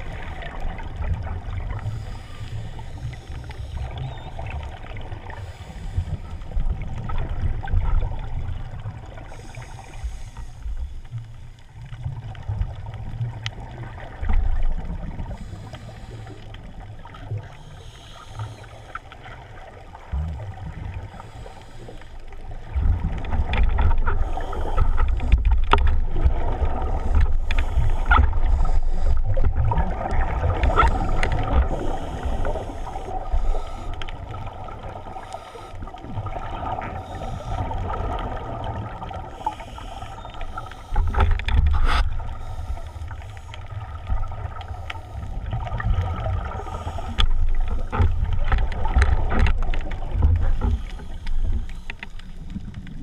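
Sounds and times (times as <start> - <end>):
muffled underwater water rumble: 0.0 - 53.0
scuba exhaust bubbles crackling: 0.0 - 53.0.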